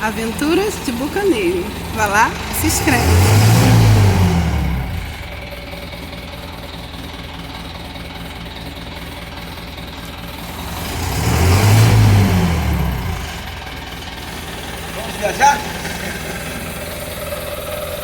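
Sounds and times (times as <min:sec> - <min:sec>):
engine idling and revving: 0:00.0 - 0:18.0.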